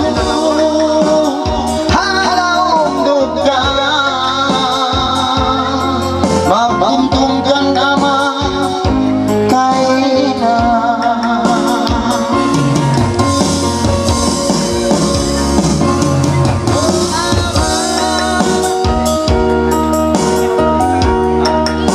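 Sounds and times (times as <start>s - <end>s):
man singing into a microphone: 0.0s - 19.9s
electronic keyboard with drum beat: 0.0s - 21.9s.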